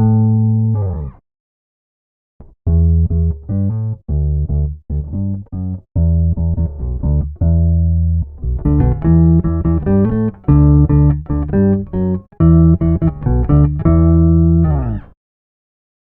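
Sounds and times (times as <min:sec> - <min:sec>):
electric bass riff: 0:00.0 - 0:01.2, 0:02.4 - 0:15.2.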